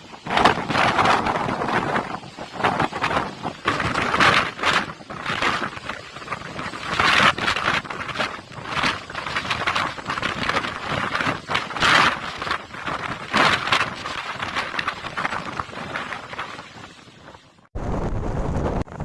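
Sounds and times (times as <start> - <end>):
strong wind gusting: 0.0 - 19.0.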